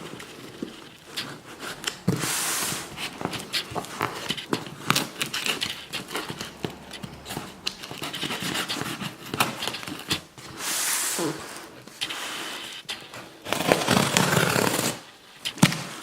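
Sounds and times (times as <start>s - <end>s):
packaging crinkling and rustling: 0.0s - 10.6s, 11.8s - 16.0s.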